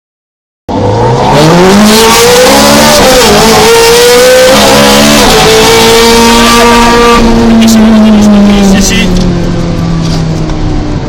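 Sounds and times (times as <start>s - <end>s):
car engine at full throttle: 0.7s - 11.0s.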